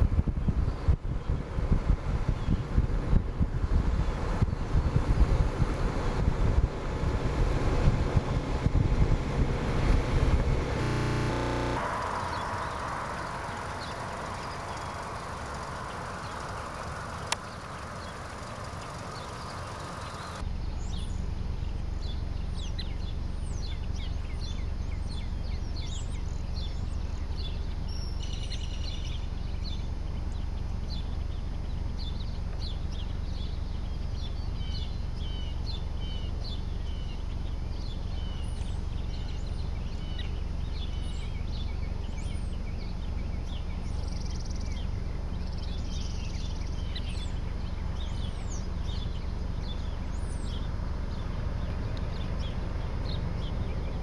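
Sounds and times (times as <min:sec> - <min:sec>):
steady low rumble: 0:00.0 - 0:54.0
birds chirping and singing: 0:10.6 - 0:54.0.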